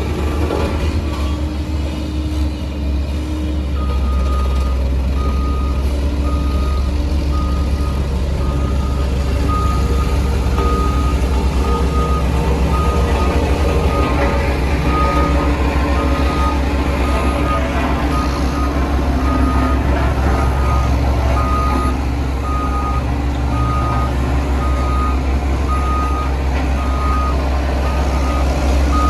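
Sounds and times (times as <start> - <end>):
diesel engine running: 0.0 - 29.0
reversing alarm beeping: 3.7 - 29.0.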